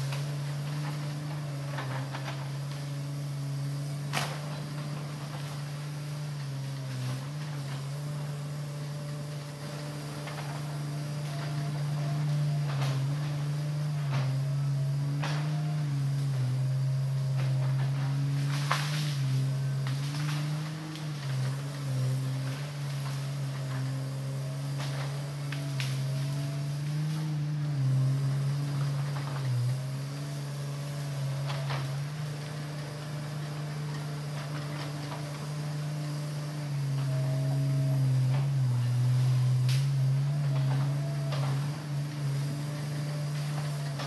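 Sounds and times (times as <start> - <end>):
excavator diesel engine working: 0.0 - 44.0
sharp cracks and knocks: 0.1 - 44.0.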